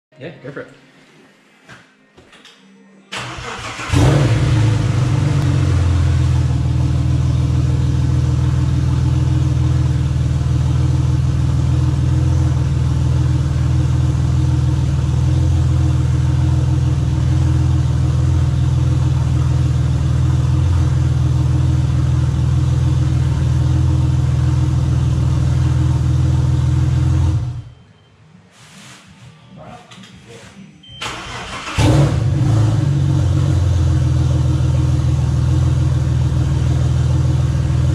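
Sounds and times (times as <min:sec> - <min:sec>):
car engine idling: 0:03.2 - 0:27.7, 0:31.0 - 0:37.9.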